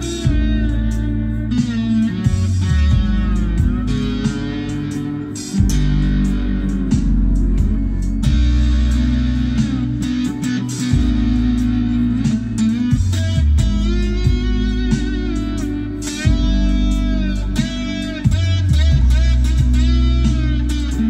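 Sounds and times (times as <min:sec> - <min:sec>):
bass line backing track: 0:00.0 - 0:21.0
electric slide guitar: 0:00.0 - 0:21.0.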